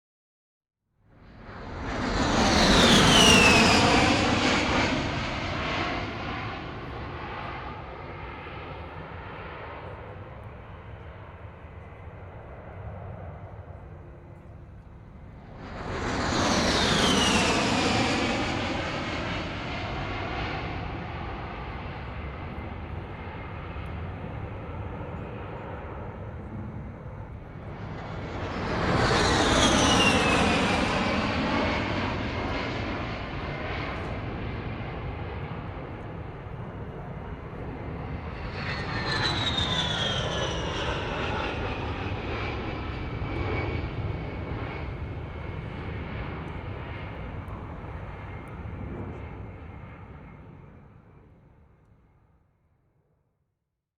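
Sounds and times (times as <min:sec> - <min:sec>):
jet engines passing by: 0:01.1 - 0:52.1.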